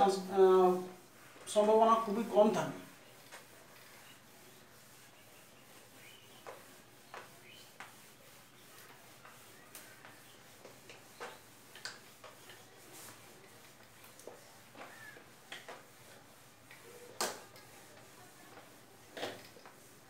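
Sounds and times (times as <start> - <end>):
wiping whiteboard rubbing squeaks: 1.5 - 20.0.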